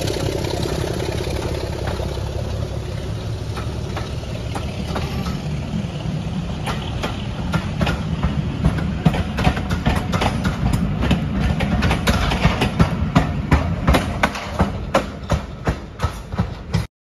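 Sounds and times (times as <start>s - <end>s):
wheels clattering over rail joints: 0.0s - 16.9s.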